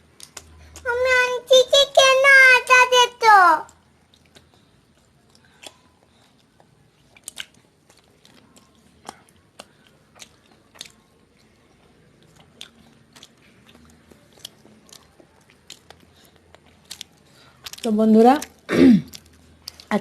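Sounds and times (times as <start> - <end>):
person chewing and eating: 0.0 - 0.9, 3.7 - 20.0.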